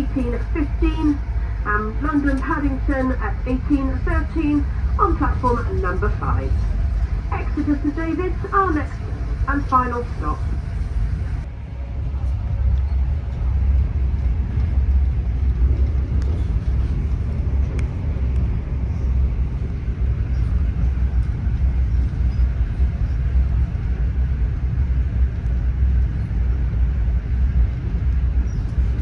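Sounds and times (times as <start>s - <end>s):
train carriage rumbling: 0.0s - 29.0s.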